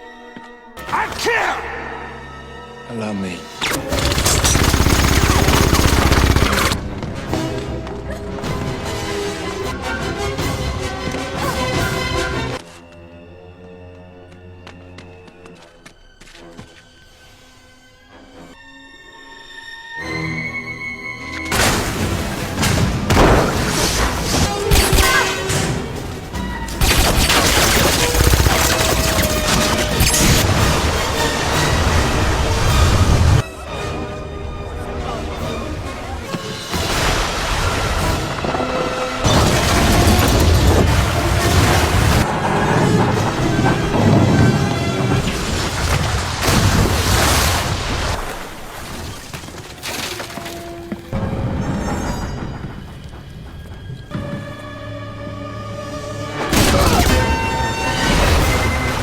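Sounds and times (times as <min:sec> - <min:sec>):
action film music: 0:00.0 - 0:48.6, 0:49.6 - 0:59.0.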